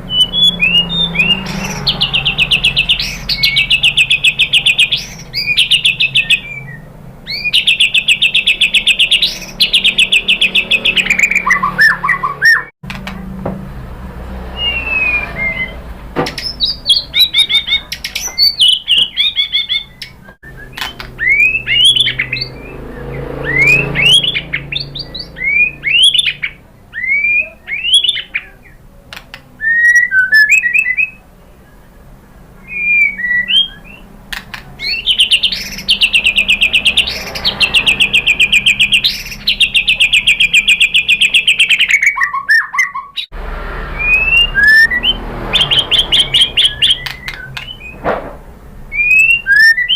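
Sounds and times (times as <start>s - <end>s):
bird singing whistled phrases: 0.1s - 12.7s, 14.6s - 28.8s, 29.6s - 31.2s, 32.6s - 34.1s, 34.8s - 43.3s, 43.9s - 48.0s, 48.9s - 49.9s.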